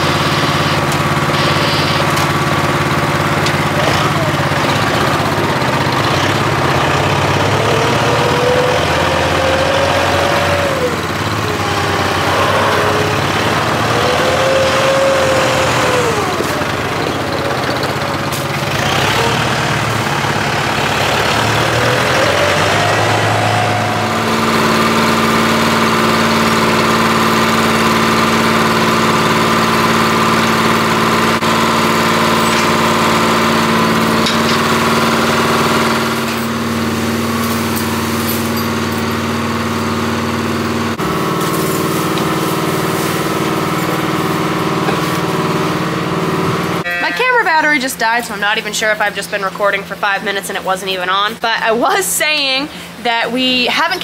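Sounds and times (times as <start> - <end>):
hydraulic whine rising and falling: 0.0 - 17.7, 18.6 - 47.2
hay chopper engine drone: 0.0 - 54.0
tractor diesel engine running: 0.0 - 54.0.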